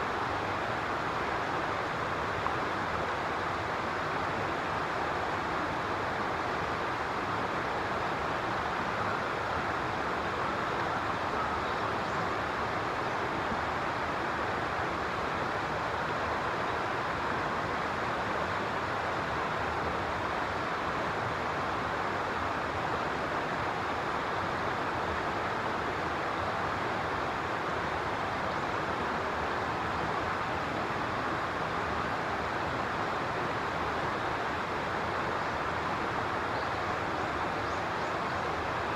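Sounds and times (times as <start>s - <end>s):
steady outdoor rushing noise: 0.0s - 38.9s.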